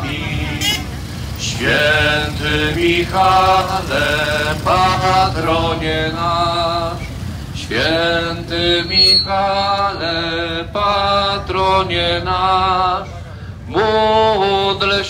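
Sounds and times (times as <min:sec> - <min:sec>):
low rumble of slow vehicles: 0:00.0 - 0:15.0.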